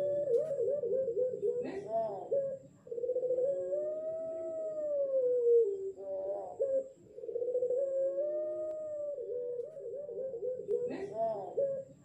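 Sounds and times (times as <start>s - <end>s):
dove howling coo: 0.0s - 12.0s.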